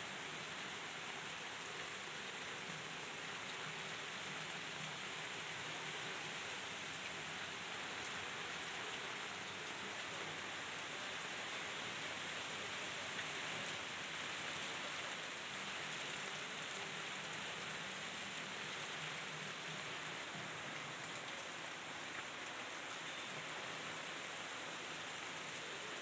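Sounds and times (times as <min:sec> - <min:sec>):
heavy rain pouring on street: 0:00.0 - 0:26.0.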